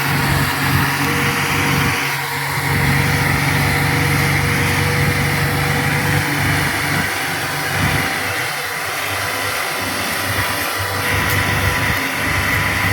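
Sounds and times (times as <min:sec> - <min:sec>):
tractor engine running: 0:00.0 - 0:12.9.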